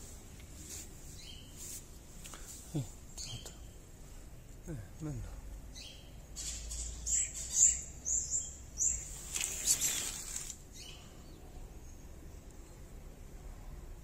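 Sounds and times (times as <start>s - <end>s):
small birds chirping: 0.4s - 13.1s.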